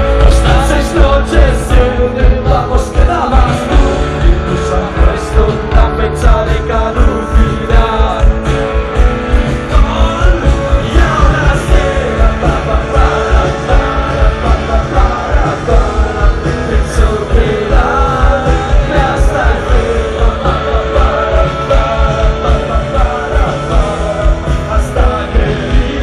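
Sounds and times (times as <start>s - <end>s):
heavy drum beat: 0.0s - 26.0s
person singing: 0.0s - 26.0s
rock band playing live: 0.0s - 26.0s.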